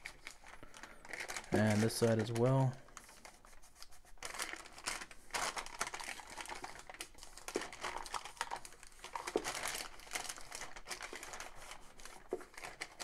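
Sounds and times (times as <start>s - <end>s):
paper crinkling and crackling: 0.0s - 13.0s.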